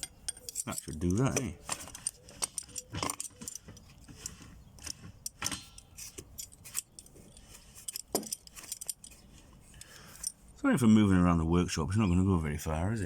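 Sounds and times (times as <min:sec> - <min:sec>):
metal tools clinking and rattling: 0:00.0 - 0:10.6.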